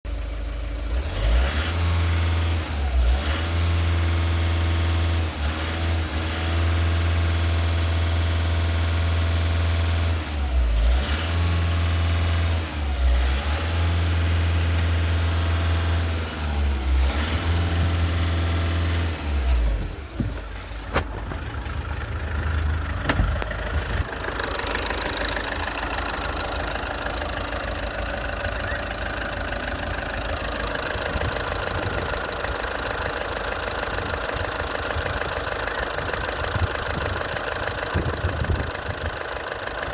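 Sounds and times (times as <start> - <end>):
engine running with low hum: 0.1 - 39.9.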